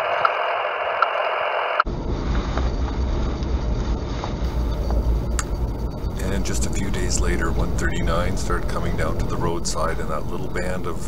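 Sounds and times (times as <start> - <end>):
radio receiver static hiss: 0.0 - 11.0
vehicle wind and road rumble: 1.9 - 11.0.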